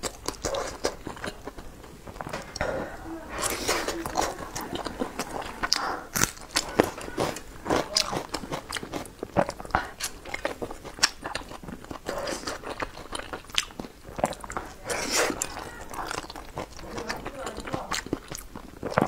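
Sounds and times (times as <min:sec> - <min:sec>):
chewing soft food: 0:00.0 - 0:19.0
mouth clicks: 0:00.0 - 0:19.0.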